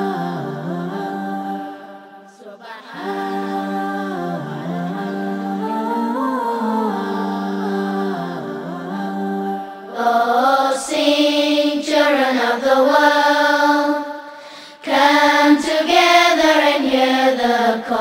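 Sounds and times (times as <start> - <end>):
voices singing chant-like melody: 0.0 - 18.0.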